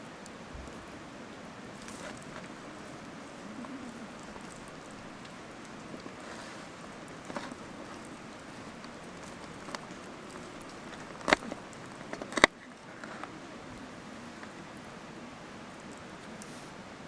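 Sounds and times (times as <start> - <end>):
wood fire hissing and popping: 0.0 - 17.0.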